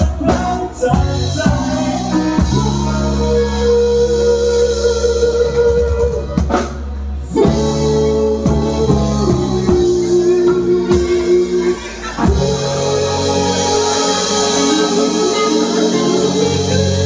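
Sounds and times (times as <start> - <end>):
drum kit: 0.0 - 17.0
electric guitar: 0.0 - 17.0
electric keyboard chords: 0.0 - 17.0.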